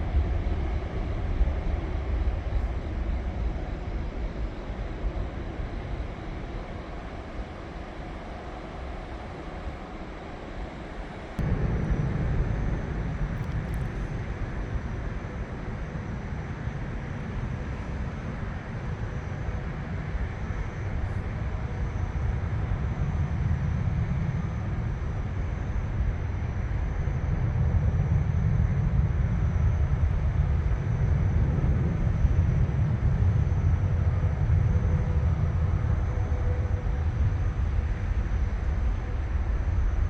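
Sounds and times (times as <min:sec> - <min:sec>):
jet airplane rumble: 0:00.0 - 0:40.0.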